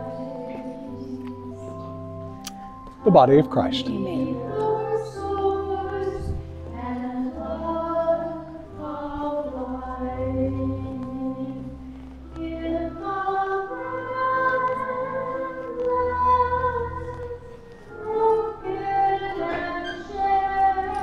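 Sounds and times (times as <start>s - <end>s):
choir singing a hymn: 0.0s - 2.3s, 3.6s - 21.0s.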